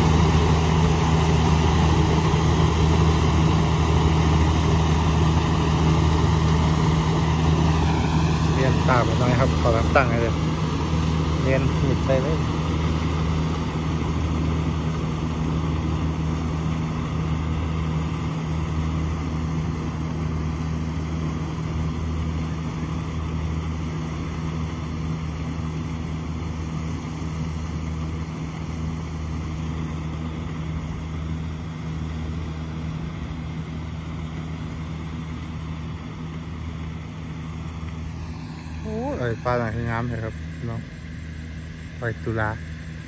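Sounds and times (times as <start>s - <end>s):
combine harvester engine running: 0.0s - 43.0s.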